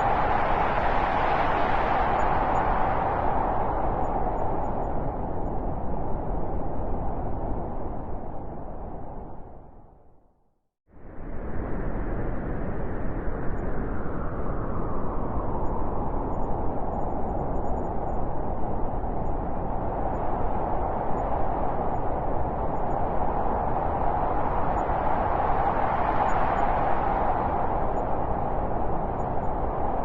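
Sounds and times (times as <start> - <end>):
blizzard wind rushing: 0.0 - 10.0, 11.0 - 30.0.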